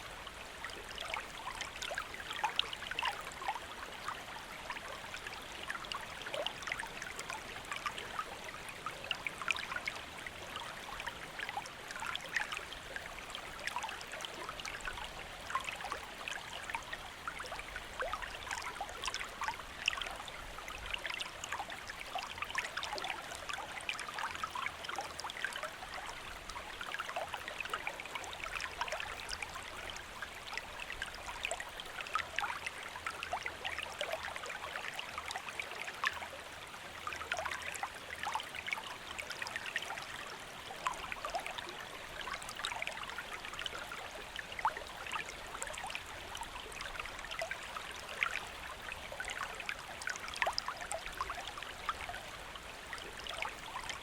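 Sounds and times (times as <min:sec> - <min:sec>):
shallow stream trickling: 0:00.0 - 0:54.0.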